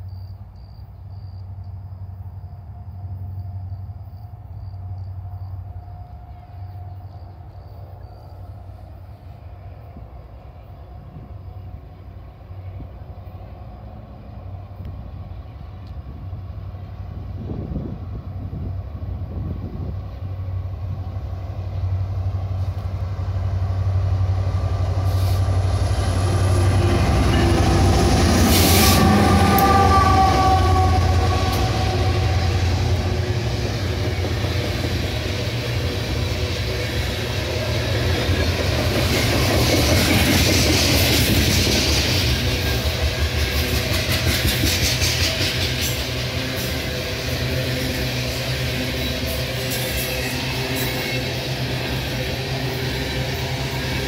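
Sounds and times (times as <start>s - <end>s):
diesel locomotive engine drone: 0.0s - 54.0s
train wheels rumbling on rails: 0.0s - 54.0s.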